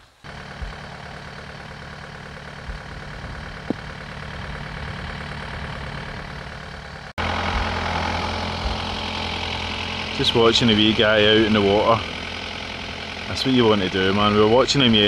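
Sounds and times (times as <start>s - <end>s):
tractor engine running: 0.0s - 15.0s
loud steady engine hum: 0.1s - 15.0s.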